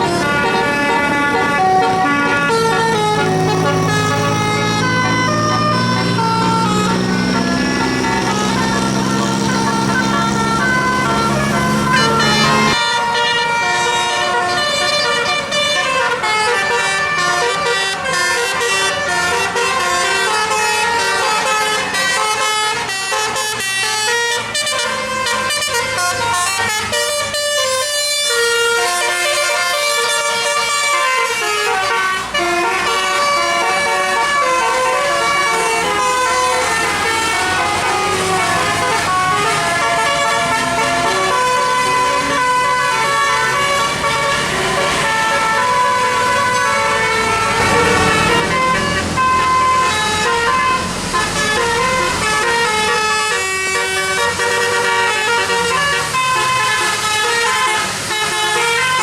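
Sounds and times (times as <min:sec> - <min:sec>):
musical air horn tune: 0:00.0 - 0:59.0.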